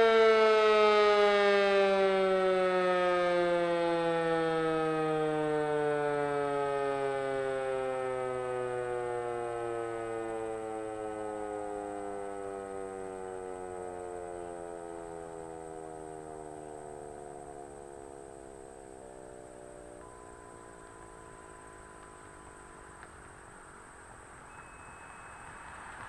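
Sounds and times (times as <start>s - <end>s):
mechanical warning siren winding down: 0.0s - 26.0s.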